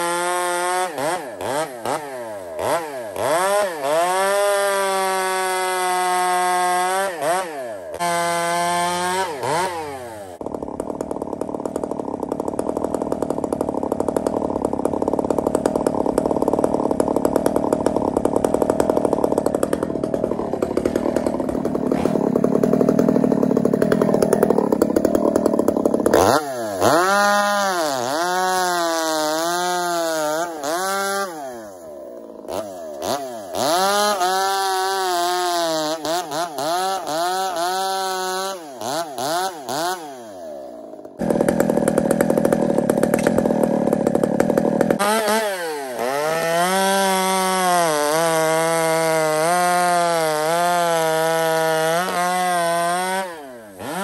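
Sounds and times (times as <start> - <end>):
chainsaw cutting logs: 0.0 - 54.0.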